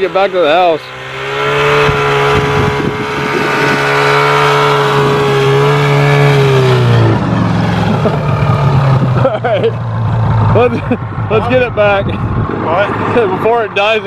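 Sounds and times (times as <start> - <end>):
snowmobile engine running: 0.0 - 14.0.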